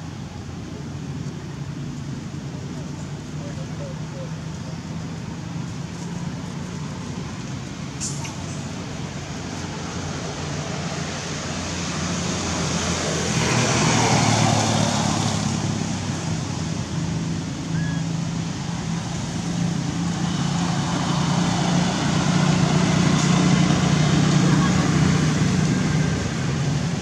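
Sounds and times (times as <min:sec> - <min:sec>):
outdoor background noise: 0:00.0 - 0:27.0
vehicle engine hum: 0:00.0 - 0:27.0.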